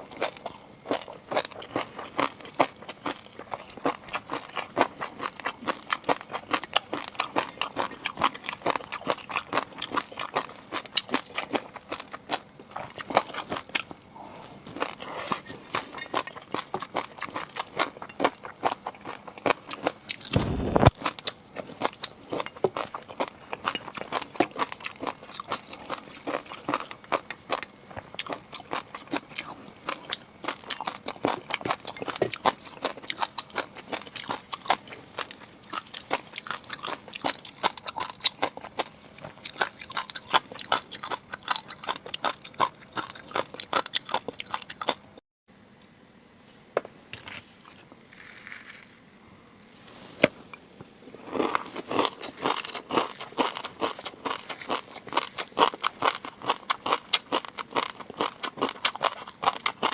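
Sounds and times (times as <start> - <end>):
seafood being chewed: 0.0 - 20.3, 20.9 - 45.2, 50.2 - 59.9.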